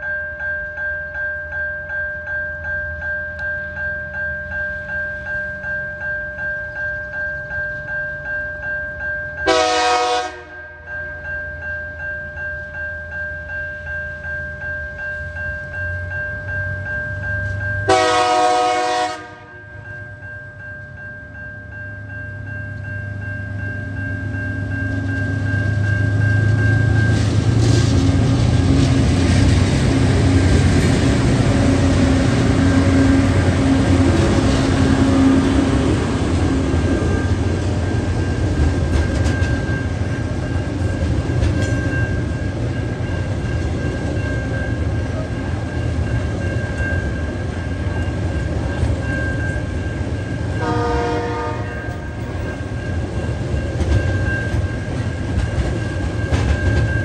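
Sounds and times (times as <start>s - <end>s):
diesel locomotive engine drone: 0.0s - 57.0s
level crossing warning bell: 0.0s - 57.0s
train wheels rumbling on rails: 2.9s - 57.0s.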